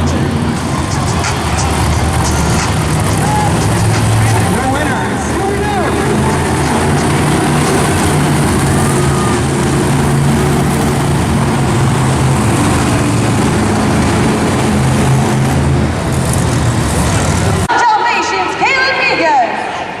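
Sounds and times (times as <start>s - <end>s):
monster truck engine running: 0.0s - 17.7s.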